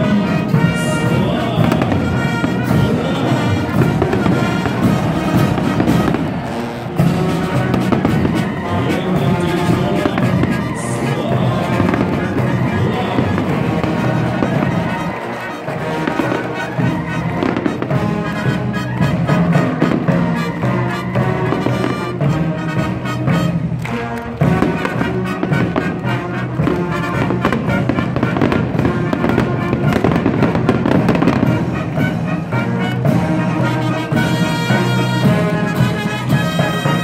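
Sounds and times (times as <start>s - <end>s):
fireworks bursting and crackling: 0.0s - 37.0s
military brass band music: 0.0s - 37.0s.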